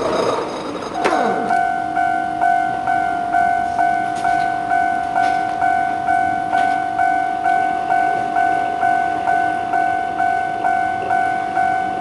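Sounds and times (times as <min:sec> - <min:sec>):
level-crossing warning bell: 0:00.0 - 0:12.0.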